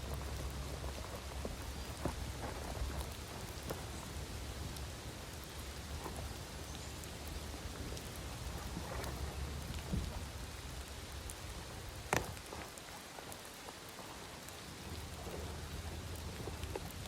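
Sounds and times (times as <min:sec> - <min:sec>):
heavy rain ticking on a surface: 0:00.0 - 0:17.0.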